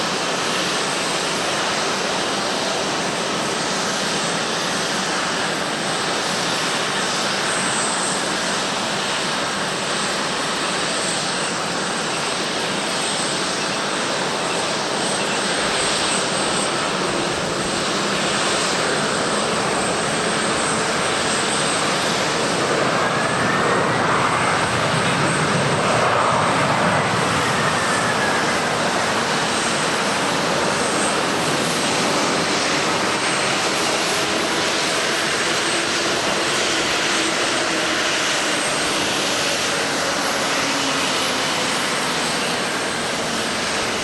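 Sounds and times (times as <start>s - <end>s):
jet engine noise: 0.0s - 44.0s.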